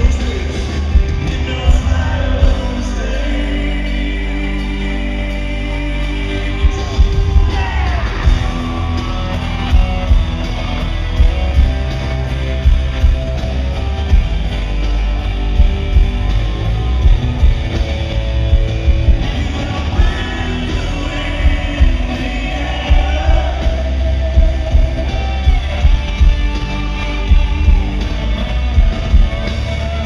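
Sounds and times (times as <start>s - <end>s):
strong drum beat: 0.0s - 3.4s, 5.5s - 30.0s
vocals: 0.0s - 13.2s, 16.9s - 30.0s
country-rock band playing: 0.0s - 30.0s
electric guitars: 0.0s - 30.0s.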